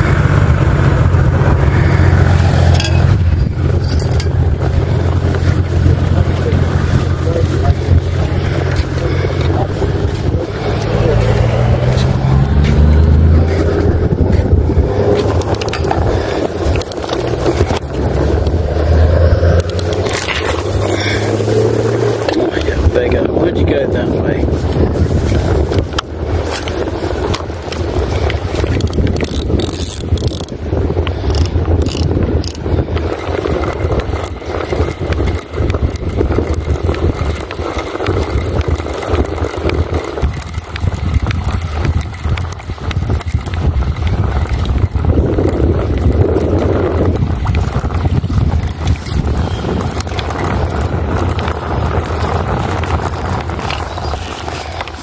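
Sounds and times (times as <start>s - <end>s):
boat motor running: 0.0s - 55.0s
wind buffeting microphone: 0.0s - 55.0s.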